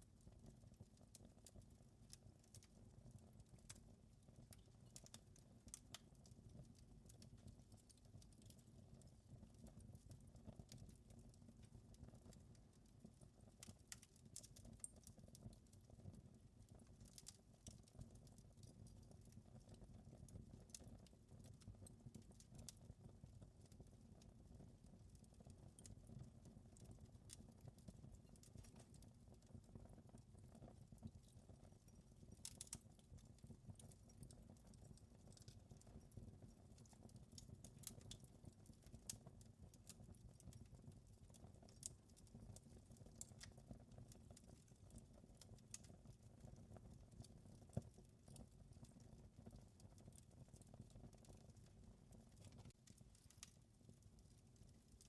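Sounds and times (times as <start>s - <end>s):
low rumble of burning: 0.0s - 55.0s
wood fire crackling and popping: 0.2s - 55.0s.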